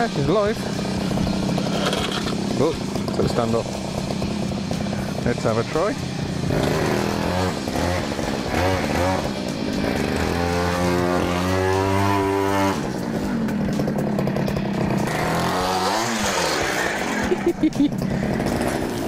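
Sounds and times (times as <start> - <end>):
small two-stroke engine revving: 0.0 - 19.0.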